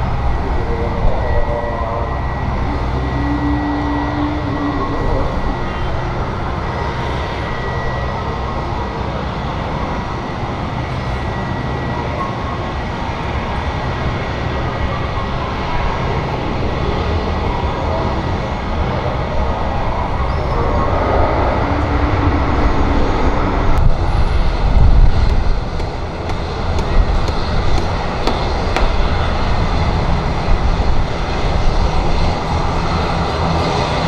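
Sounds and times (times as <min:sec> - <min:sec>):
jet engines roaring and whining: 0:00.0 - 0:34.0.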